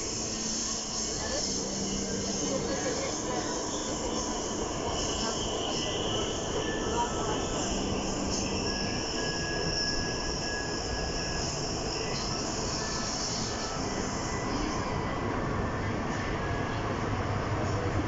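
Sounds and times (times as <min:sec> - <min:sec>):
high wheel squeal: 0:00.0 - 0:16.7
train wheels rumbling on rails: 0:00.0 - 0:18.0.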